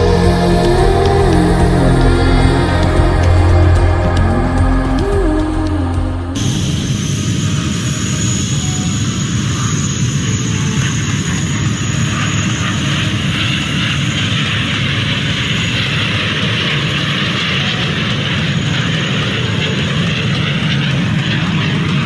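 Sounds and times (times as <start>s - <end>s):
jet engines flying past: 0.0s - 22.0s.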